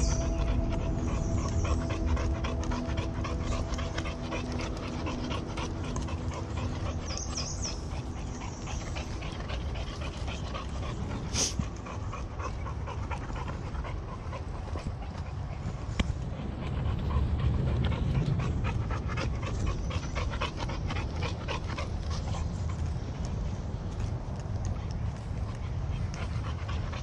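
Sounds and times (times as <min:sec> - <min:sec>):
dog panting: 0:00.0 - 0:27.0.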